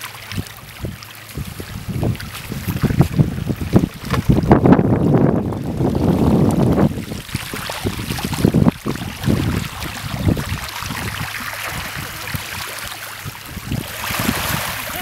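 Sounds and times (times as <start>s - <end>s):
small waves washing on beach: 0.0s - 15.0s
wind buffeting microphone: 0.0s - 15.0s.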